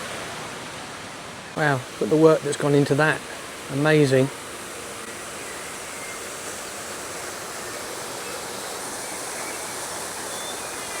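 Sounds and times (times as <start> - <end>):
fountain water rushing: 0.0 - 11.0.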